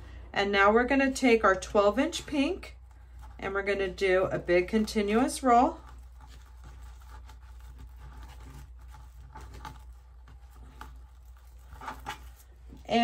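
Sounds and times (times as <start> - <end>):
low steady hum: 0.0 - 13.0
plastic mesh rustling and scraping: 1.6 - 13.0.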